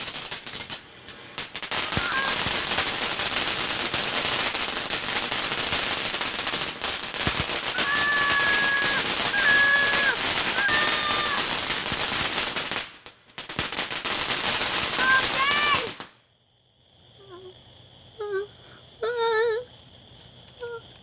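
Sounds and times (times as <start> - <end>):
firework crackling: 0.0 - 21.0.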